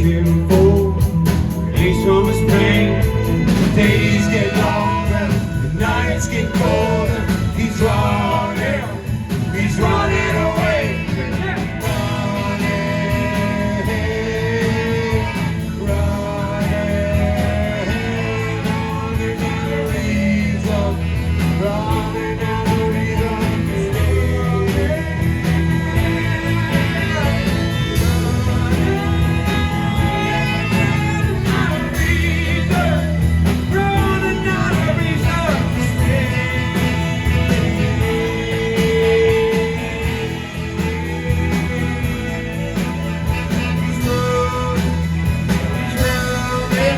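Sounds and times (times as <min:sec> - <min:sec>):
live blues-rock band: 0:00.0 - 0:46.9
pitch-bending lead guitar: 0:00.0 - 0:46.9.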